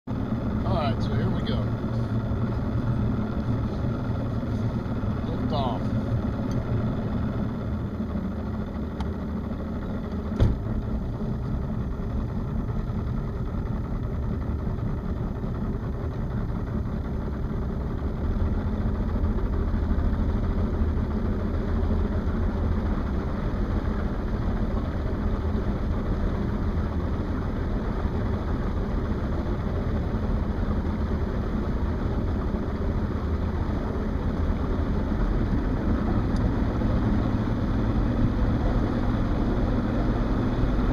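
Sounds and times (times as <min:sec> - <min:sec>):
motorboat engine rumbling: 0:00.1 - 0:40.9.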